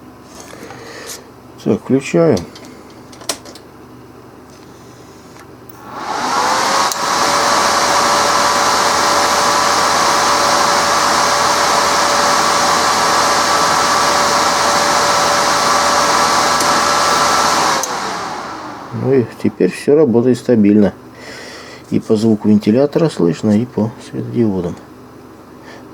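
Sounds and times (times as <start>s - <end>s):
cooling fan humming: 0.0s - 25.9s.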